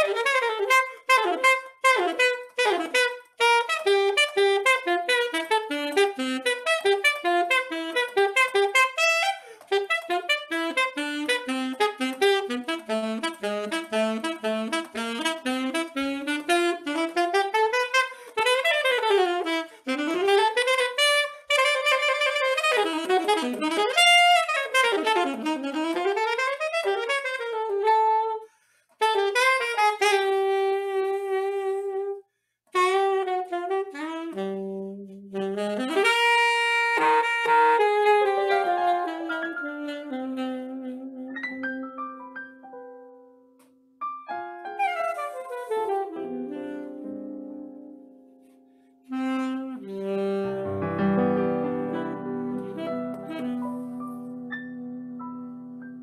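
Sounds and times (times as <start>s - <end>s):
solo saxophone playing: 0.0s - 42.7s, 44.2s - 56.0s.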